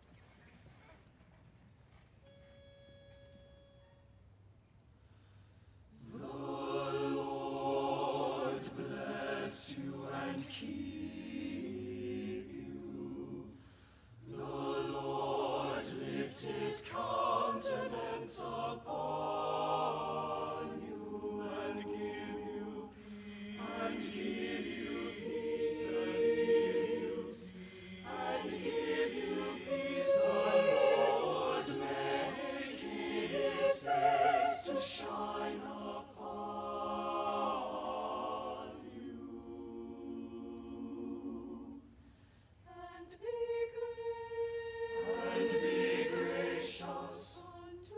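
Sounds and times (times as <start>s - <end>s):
choir singing: 6.0s - 13.6s, 14.2s - 42.1s, 42.7s - 47.9s.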